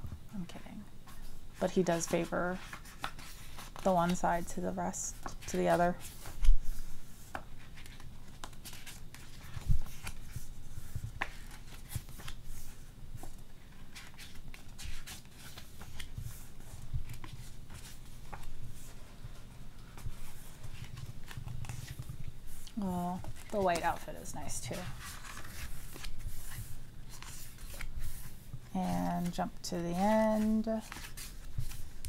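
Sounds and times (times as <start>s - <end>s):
photobook pages turning: 1.1s - 19.0s, 20.0s - 32.0s.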